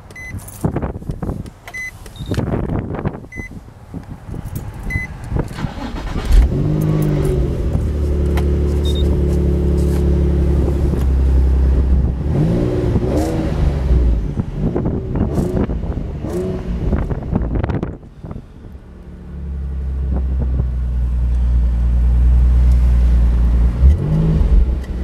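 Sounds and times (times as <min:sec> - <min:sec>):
car engine starting and idling: 0:01.6 - 0:25.0.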